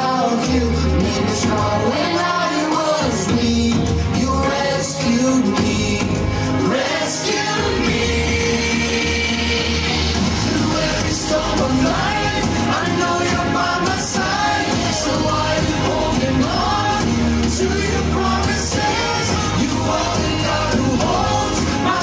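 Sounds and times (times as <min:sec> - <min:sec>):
person singing: 0:00.0 - 0:22.0
pop backing music: 0:00.0 - 0:22.0.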